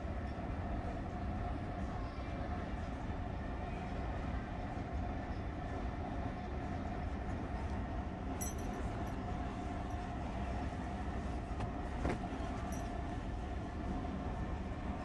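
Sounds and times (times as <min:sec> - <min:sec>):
low indoor rumble: 0:00.0 - 0:15.0.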